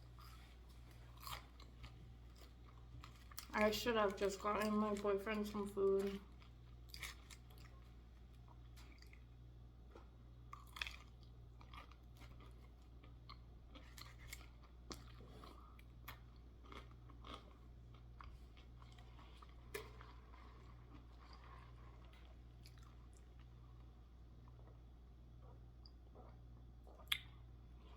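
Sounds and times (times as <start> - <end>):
person chewing crunchy fried food: 0.0 - 27.9
steady low hum: 0.0 - 27.9.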